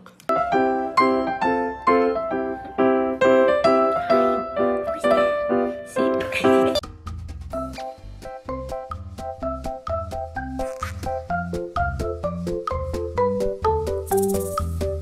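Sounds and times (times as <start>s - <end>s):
background piano music: 0.3s - 15.0s.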